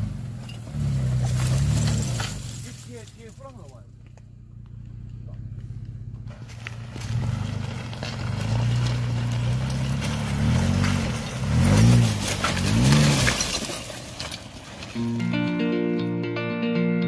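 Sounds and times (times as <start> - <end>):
car engine revving: 0.0 - 15.1
crackling crunching noise: 1.0 - 15.2.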